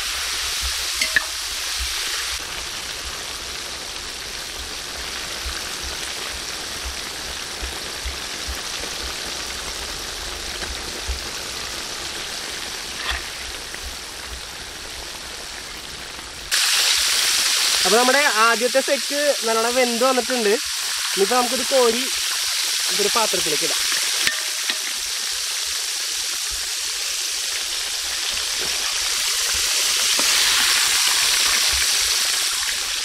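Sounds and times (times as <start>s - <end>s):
chicken deep-frying in oil: 0.0s - 33.0s.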